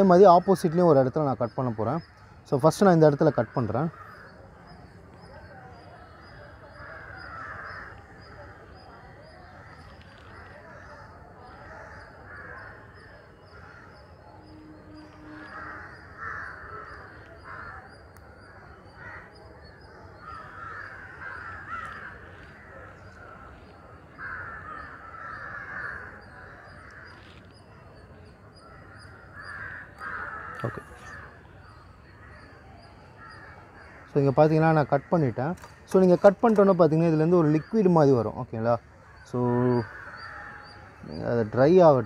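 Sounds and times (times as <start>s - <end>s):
crows cawing: 0.0s - 42.0s.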